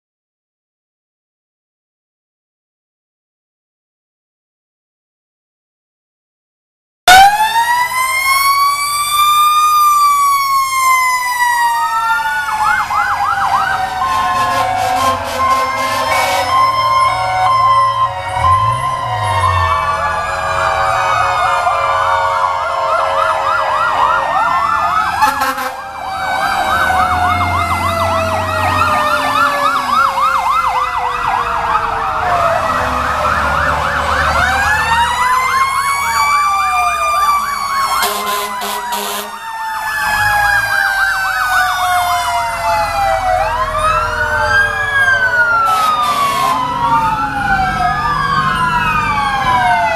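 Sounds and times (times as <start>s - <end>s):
fire engine sirens wailing: 7.1s - 49.9s.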